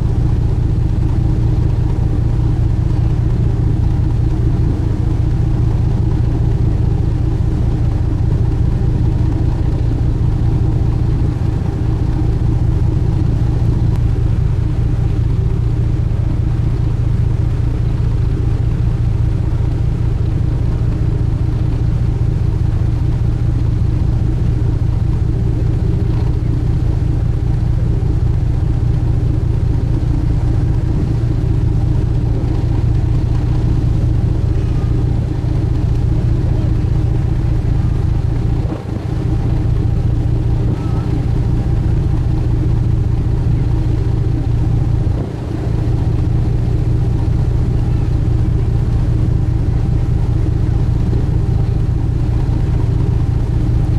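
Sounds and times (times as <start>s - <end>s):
boat engines droning: 0.0s - 53.9s.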